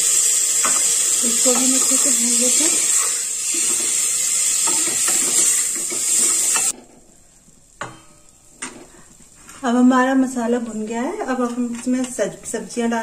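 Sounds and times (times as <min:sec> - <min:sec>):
masala sizzling in a pot: 0:00.0 - 0:13.0.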